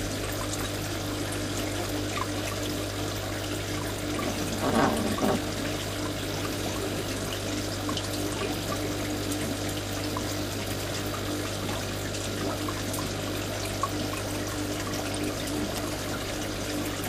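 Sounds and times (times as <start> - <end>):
aquarium water trickling: 0.0 - 17.0.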